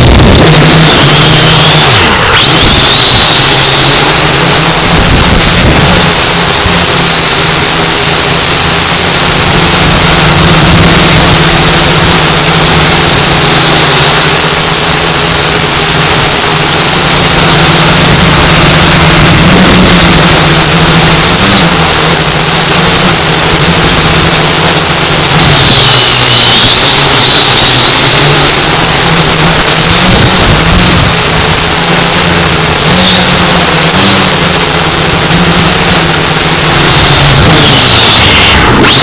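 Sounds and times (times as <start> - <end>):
drone propellers whining: 0.0 - 39.0.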